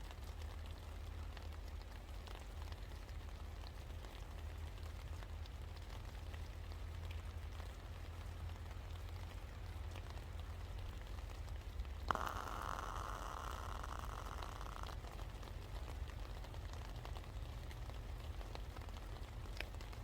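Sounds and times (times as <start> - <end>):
low steady rumble: 0.0 - 20.0
raindrops ticking: 0.0 - 20.0
steady rain: 0.0 - 20.0.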